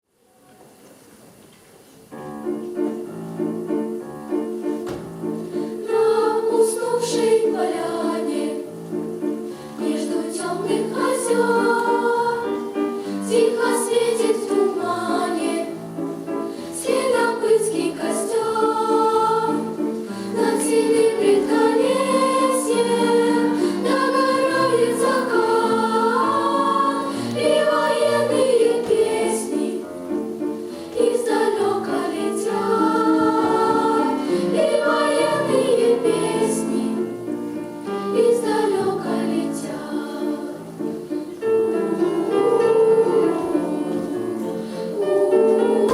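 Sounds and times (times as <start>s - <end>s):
choir singing with accompaniment: 2.3s - 45.9s.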